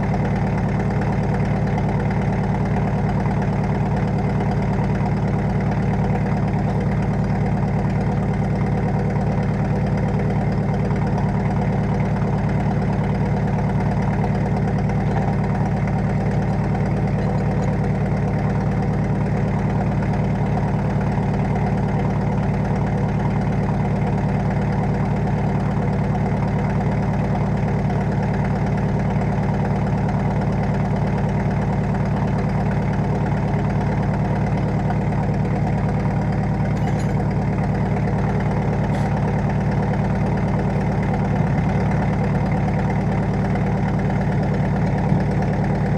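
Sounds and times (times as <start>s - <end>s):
tractor engine idling: 0.0s - 45.9s.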